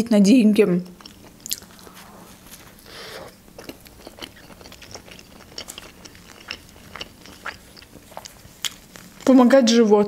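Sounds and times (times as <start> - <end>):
close-up wet chewing: 0.8 - 9.5.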